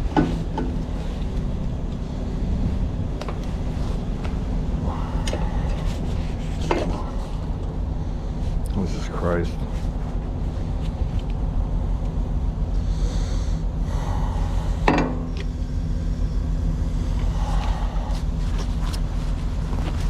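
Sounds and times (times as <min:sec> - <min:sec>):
truck engine idling: 0:00.0 - 0:19.8.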